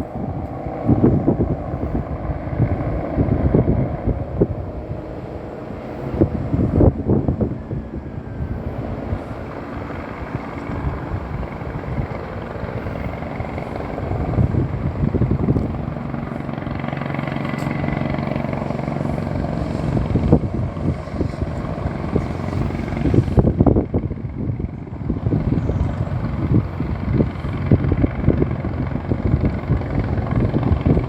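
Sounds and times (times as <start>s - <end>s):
helicopter engine and rotor drone: 0.0s - 31.0s
wind buffeting microphone: 0.0s - 31.0s.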